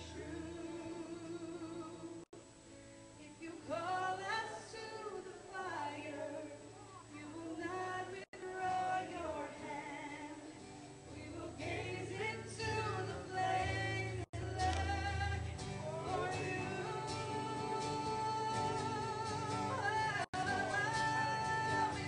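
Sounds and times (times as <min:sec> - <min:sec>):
woman singing: 0:00.0 - 0:02.3, 0:03.2 - 0:22.0
strummed acoustic guitars: 0:00.0 - 0:22.0.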